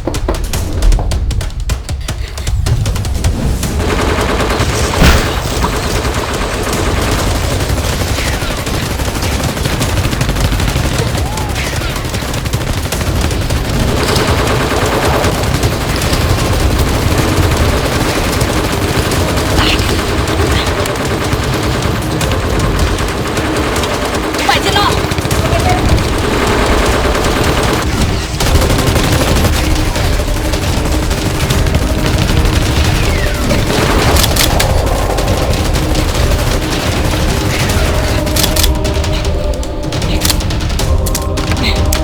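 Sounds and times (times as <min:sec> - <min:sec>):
rapid gunfire: 0:00.0 - 0:42.0.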